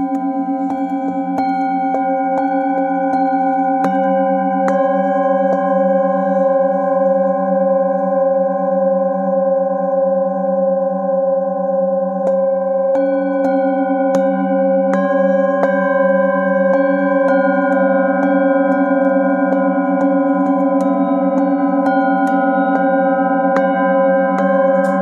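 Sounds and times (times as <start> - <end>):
singing bowls struck with mallet: 0.0 - 11.1, 11.7 - 25.0
singing bowls ringing: 0.0 - 25.0.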